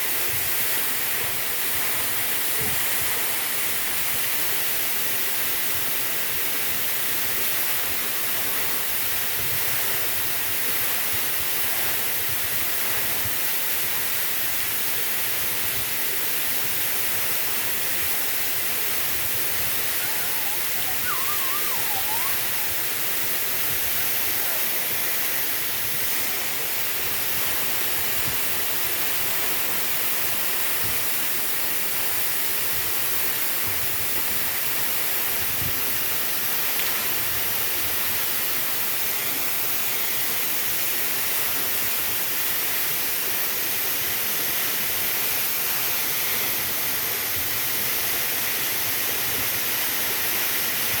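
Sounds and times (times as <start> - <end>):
waterfall rushing: 0.0 - 46.4.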